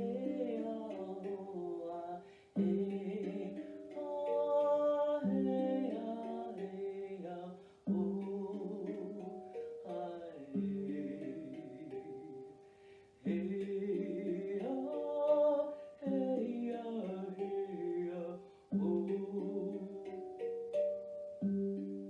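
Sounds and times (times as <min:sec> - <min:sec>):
handpan notes ringing: 0:00.0 - 0:12.6, 0:13.3 - 0:22.0
wordless singing: 0:00.0 - 0:20.8.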